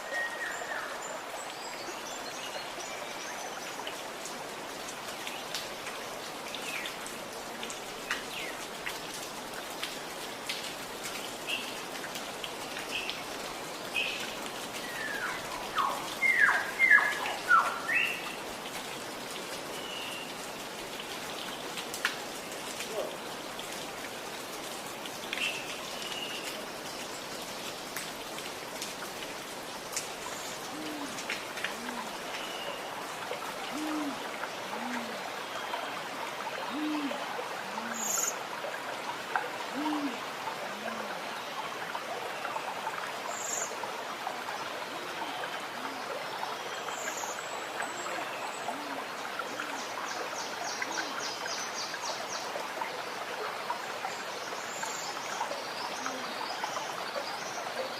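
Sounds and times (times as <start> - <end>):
running water gurgling: 0.0 - 57.9
water dripping: 0.0 - 57.9.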